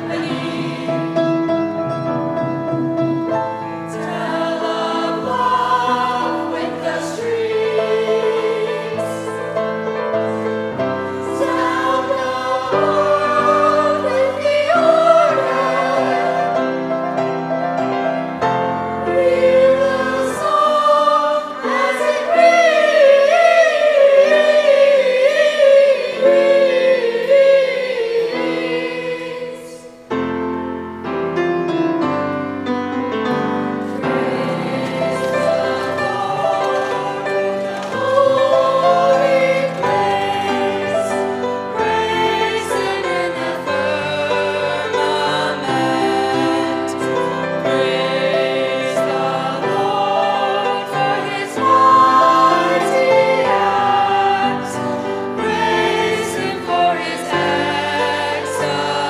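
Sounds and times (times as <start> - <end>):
choir singing: 0.0 - 30.3, 33.2 - 59.0
piano accompaniment: 0.0 - 59.0.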